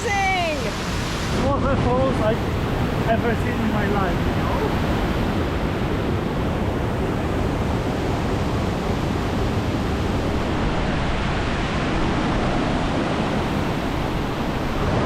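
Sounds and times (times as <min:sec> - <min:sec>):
waterfall rushing: 0:00.0 - 0:06.1, 0:07.0 - 0:15.0.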